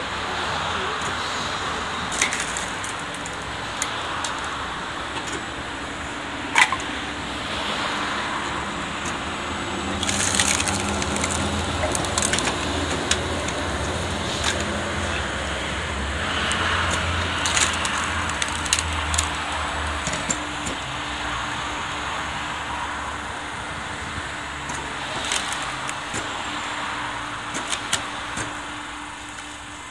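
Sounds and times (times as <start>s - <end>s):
wood splitter chopping wood: 1.0s - 5.7s, 6.4s - 21.3s, 23.7s - 28.7s.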